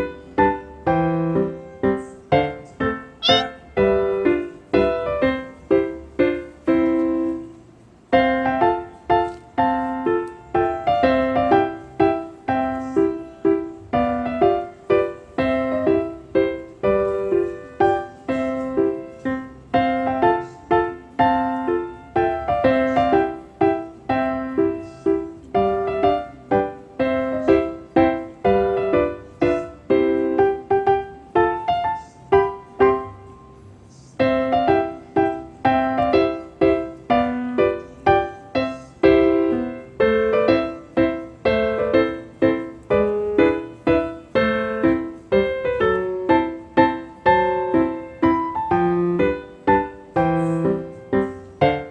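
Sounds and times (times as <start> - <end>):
light piano melody: 0.0 - 51.9.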